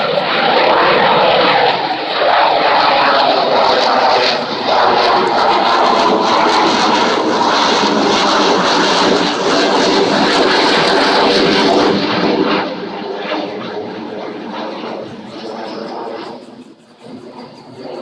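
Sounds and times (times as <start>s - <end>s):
jet aircraft roar: 0.0s - 18.0s.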